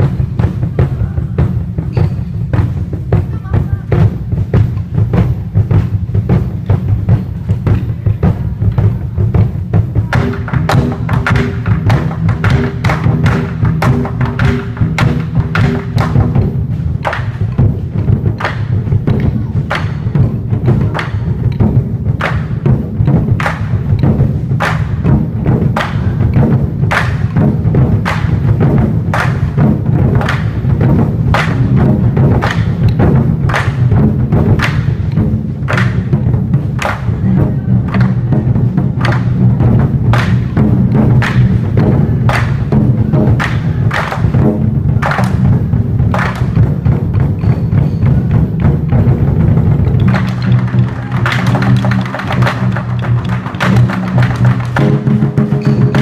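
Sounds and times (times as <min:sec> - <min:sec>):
barrel drums beating: 0:00.0 - 0:56.0.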